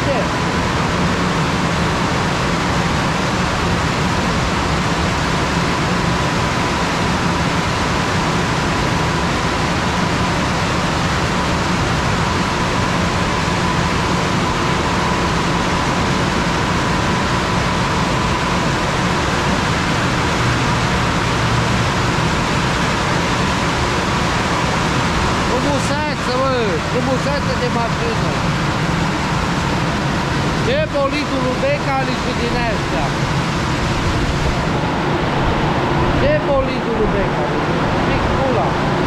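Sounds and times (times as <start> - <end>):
car wash rushing noise: 0.0 - 39.0
faint steady whine: 0.0 - 39.0.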